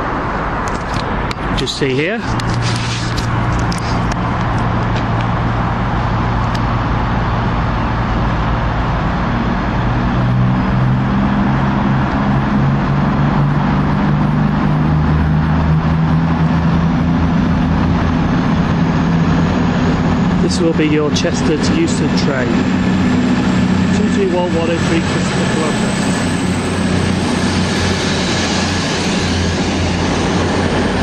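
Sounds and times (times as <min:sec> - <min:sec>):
train diesel engines running: 0:00.0 - 0:31.0.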